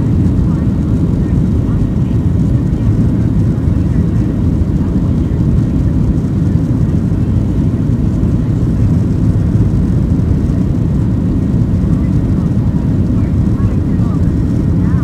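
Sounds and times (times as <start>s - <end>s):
jet engines deep rumble: 0.0s - 15.0s.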